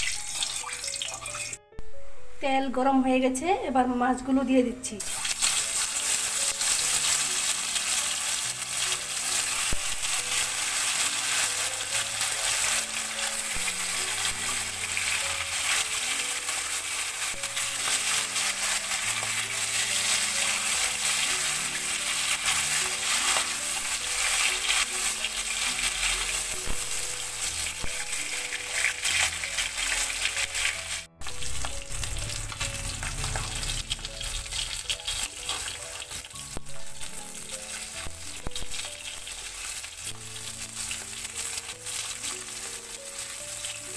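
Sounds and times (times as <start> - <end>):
fish sizzling in hot oil: 0.0 - 1.6, 5.0 - 43.9
metal spatula in pan: 5.0 - 43.9.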